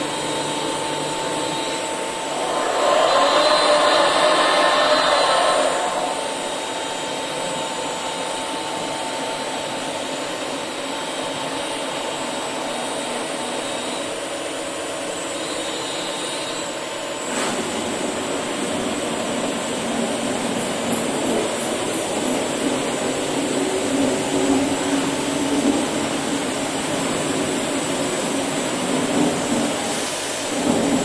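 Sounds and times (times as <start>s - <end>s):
machine whirring hiss: 0.0s - 31.0s.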